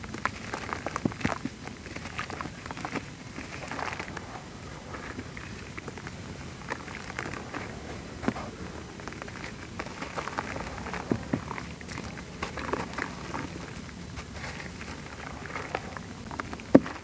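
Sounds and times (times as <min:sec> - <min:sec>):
sand crumbling in foamy water: 0:00.0 - 0:17.0.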